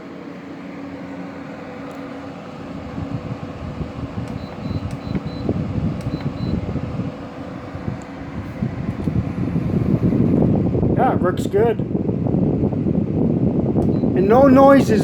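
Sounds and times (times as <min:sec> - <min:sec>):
air conditioner fan hum: 0:00.0 - 0:15.0.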